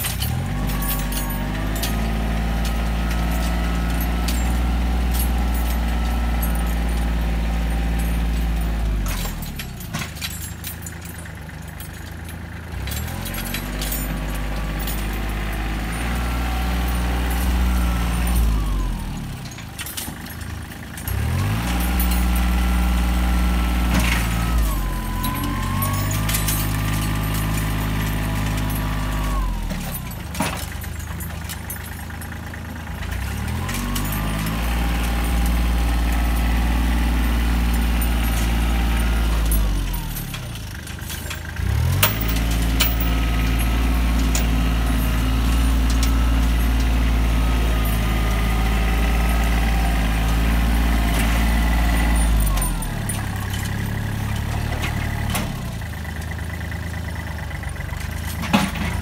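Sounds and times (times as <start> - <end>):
tractor diesel engine revving: 0.0 - 59.0.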